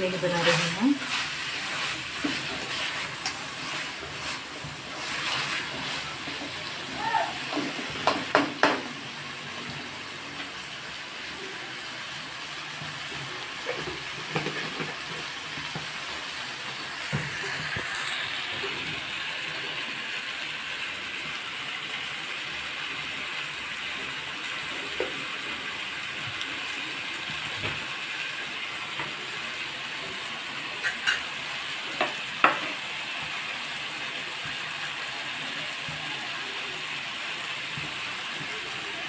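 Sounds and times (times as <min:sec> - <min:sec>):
meat sizzling in a pan: 0:00.0 - 0:39.0.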